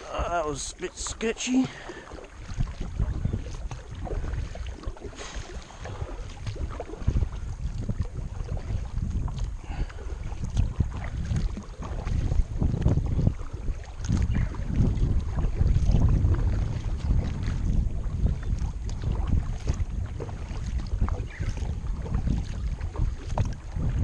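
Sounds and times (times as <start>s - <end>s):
paddle splashing and dripping: 0.0s - 24.0s
wind buffeting microphone: 0.0s - 24.0s.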